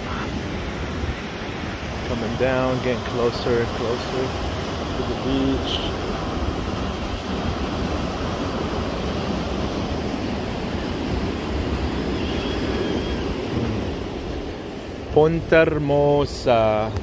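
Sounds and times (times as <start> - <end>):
wind on microphone: 0.0 - 16.3
waves breaking on beach: 0.0 - 17.0.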